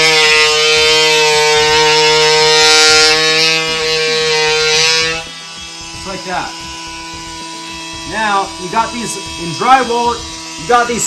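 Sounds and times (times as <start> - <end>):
blade cutting drywall hiss: 0.0 - 11.0
oscillating multi-tool buzz: 0.0 - 11.0.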